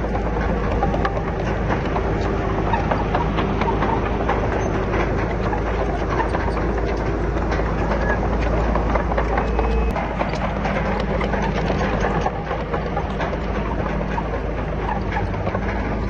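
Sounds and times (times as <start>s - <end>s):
heavy machinery diesel engine: 0.0s - 16.0s
rattling and clatter: 0.0s - 16.0s.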